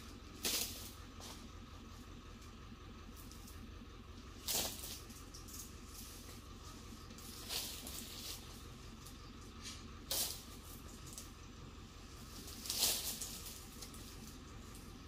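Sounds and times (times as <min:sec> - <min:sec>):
palm fronds rustling: 0:00.0 - 0:15.0.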